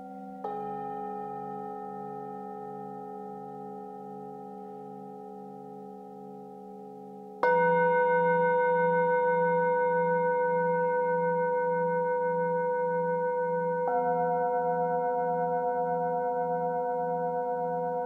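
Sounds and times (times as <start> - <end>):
singing bowls ringing: 0.0 - 18.0.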